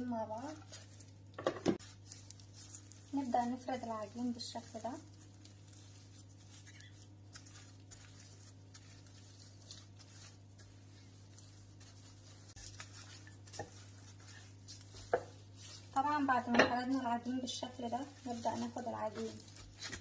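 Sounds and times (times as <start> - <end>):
rolling pin rolling dough: 0.0 - 20.0.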